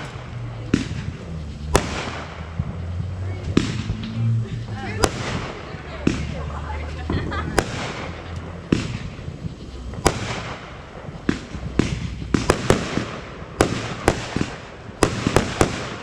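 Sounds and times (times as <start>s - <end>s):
fireworks bangs: 0.0s - 16.0s
fireworks crackle: 0.0s - 16.0s.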